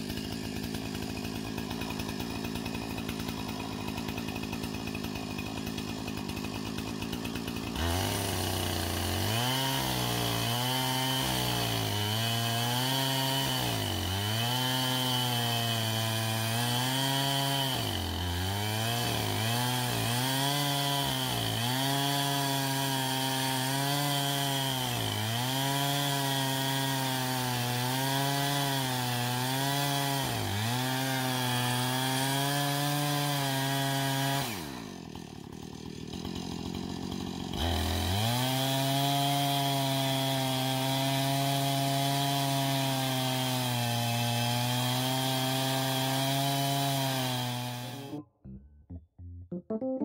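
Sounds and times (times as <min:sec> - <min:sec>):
chainsaw cutting through log: 0:00.0 - 0:48.3.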